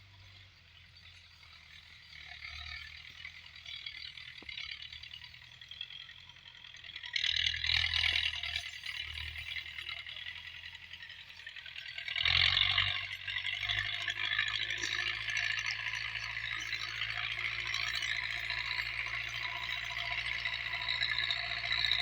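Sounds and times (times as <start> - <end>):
tractor engine hum: 0.0 - 22.0.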